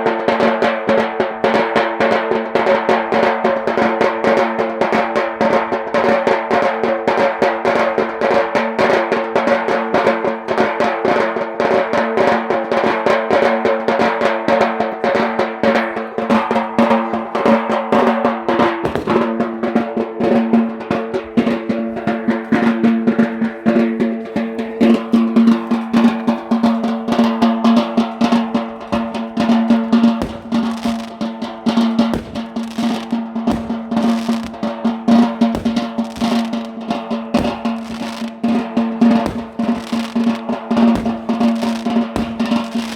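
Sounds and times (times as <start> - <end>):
fast drumming: 0.1 - 42.9.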